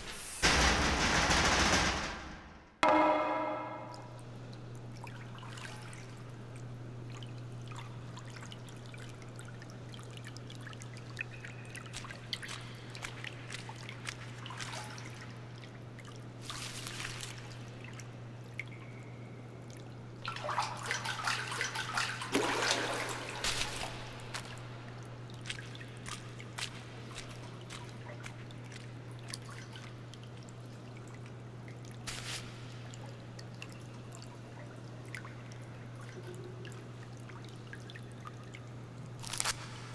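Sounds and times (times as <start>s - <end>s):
steady low hum: 0.0s - 39.9s
water splashing: 2.8s - 39.9s
water dripping and trickling: 3.3s - 39.6s.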